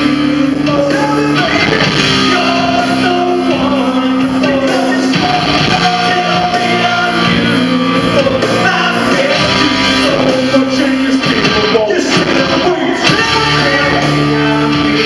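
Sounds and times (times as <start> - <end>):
live rock band with singing: 0.0 - 15.0.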